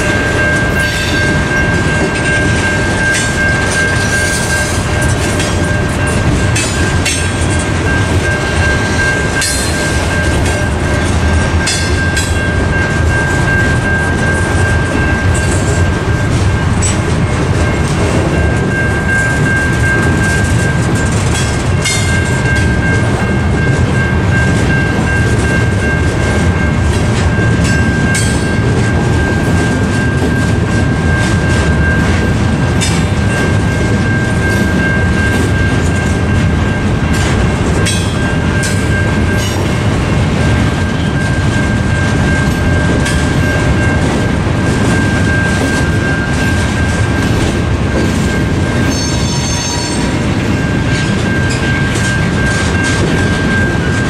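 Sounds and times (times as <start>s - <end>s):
electronic crossing bell ringing: 0.0s - 54.0s
freight train rumbling past: 0.0s - 54.0s.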